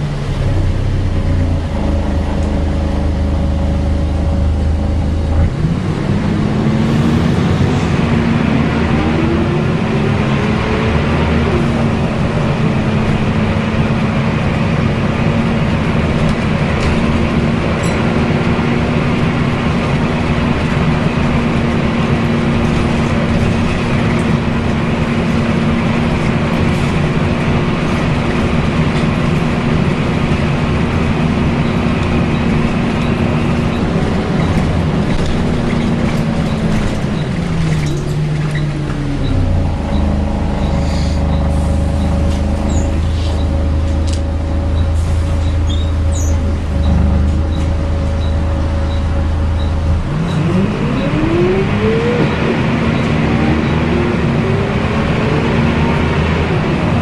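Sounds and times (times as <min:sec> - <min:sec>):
bus engine and cooling fan drone: 0:00.0 - 0:57.0.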